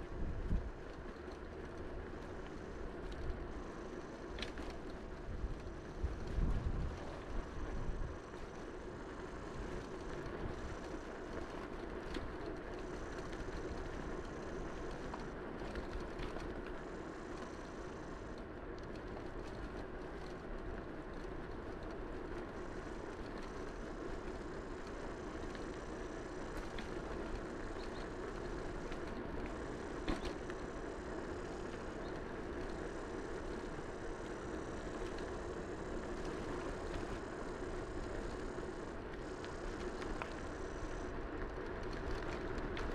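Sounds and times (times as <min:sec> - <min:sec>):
bicycle tyre rumble on pavement: 0:00.0 - 0:42.9.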